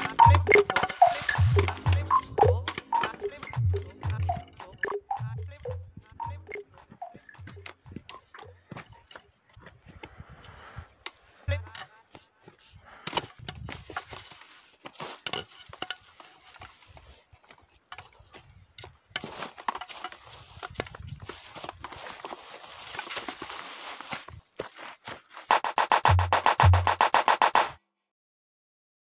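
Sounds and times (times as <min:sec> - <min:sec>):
scrambling over rock and undergrowth: 0:00.0 - 0:25.5.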